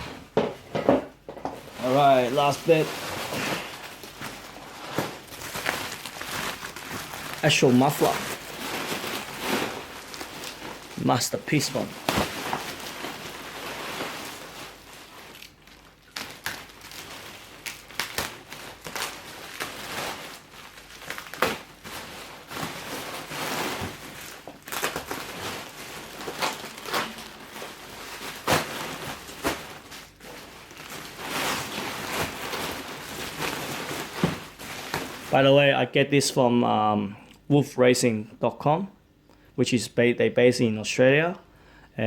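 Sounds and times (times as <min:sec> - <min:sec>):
packaging crinkling and rustling: 0:00.0 - 0:35.6.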